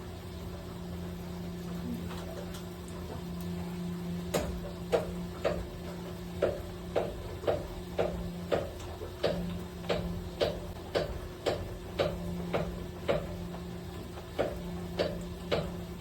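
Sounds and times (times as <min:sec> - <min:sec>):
low hum of running equipment: 0:00.0 - 0:16.0.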